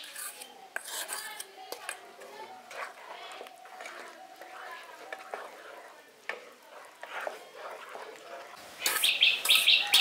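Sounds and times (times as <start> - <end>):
faint background voices: 0.0 - 10.0
spatula scraping a pan: 0.0 - 10.0.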